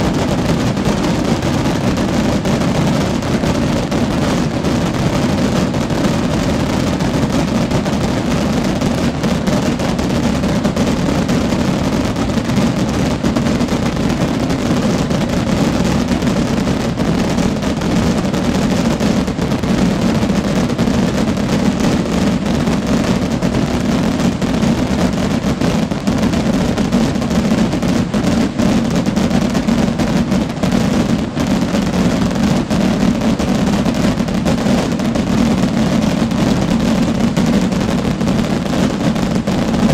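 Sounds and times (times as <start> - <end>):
rocket fireworks bursting: 0.0 - 39.9.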